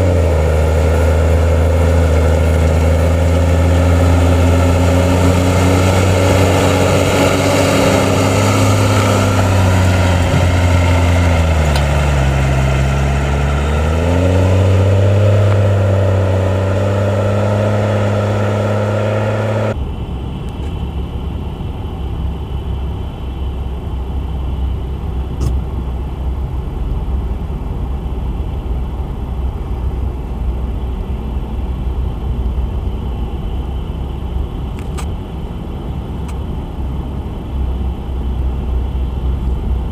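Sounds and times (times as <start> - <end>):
heavy machinery engine running hard: 0.0 - 39.9
rough low engine rumble: 0.0 - 39.9.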